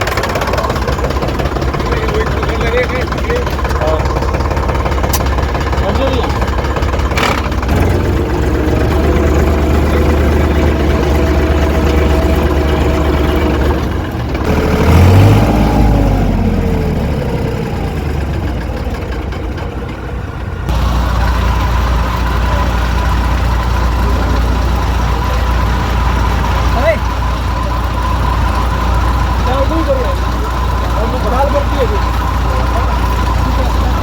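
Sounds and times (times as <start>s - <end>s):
combine harvester engine hum: 0.0s - 34.0s.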